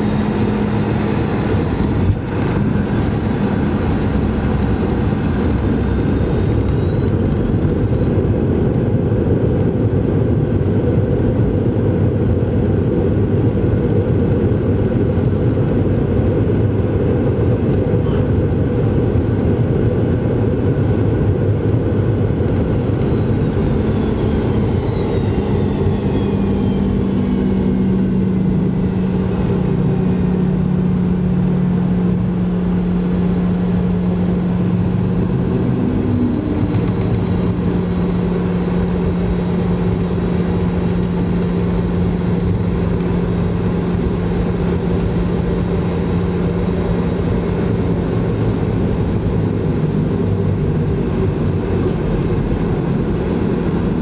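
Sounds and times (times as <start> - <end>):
jet engines whining down: 0.0 - 54.0
low drone of rolling noise: 0.0 - 54.0.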